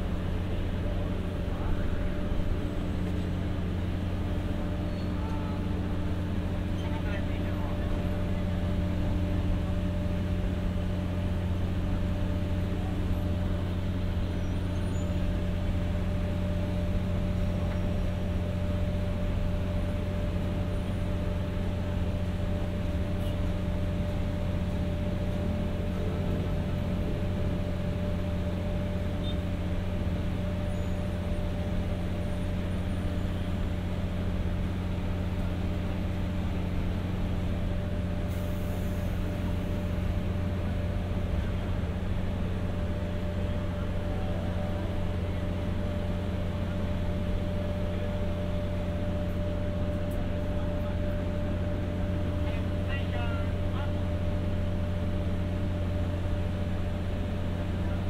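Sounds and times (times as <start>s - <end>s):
diesel generator humming: 0.0s - 58.0s.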